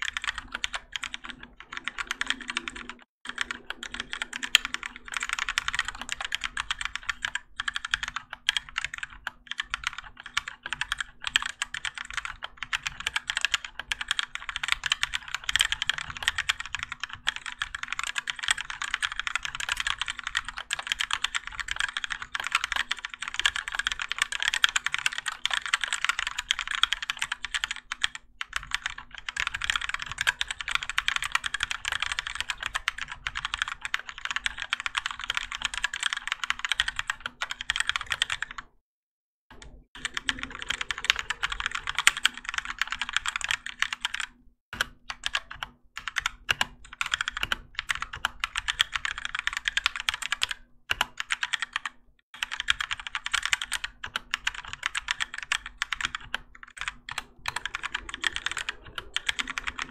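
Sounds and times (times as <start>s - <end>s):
mechanical keyboard typing: 0.0s - 38.7s, 39.5s - 59.9s.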